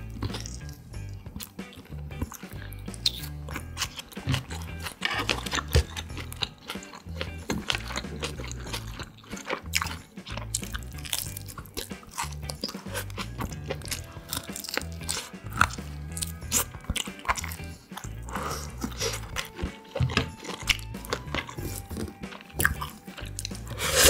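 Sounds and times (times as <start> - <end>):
biting and chewing meat: 0.0 - 24.0
mouth clicks and crunches: 0.0 - 24.0.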